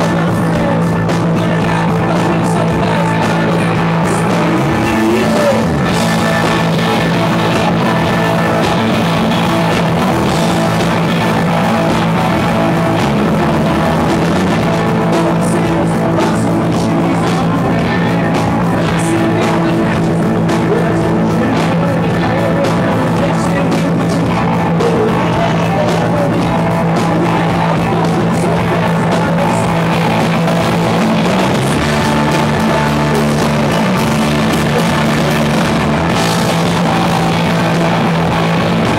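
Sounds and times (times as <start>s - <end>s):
drum kit: 0.0s - 38.9s
electric guitar: 0.0s - 38.9s
held low notes: 0.0s - 38.9s.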